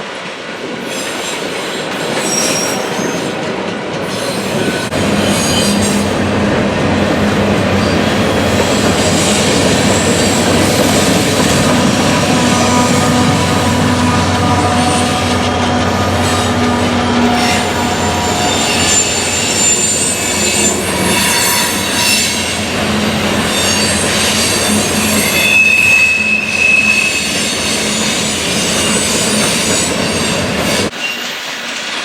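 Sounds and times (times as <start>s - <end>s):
freight train rumbling: 0.0s - 32.0s
train wheels squealing on rails: 0.7s - 6.3s, 7.0s - 32.0s.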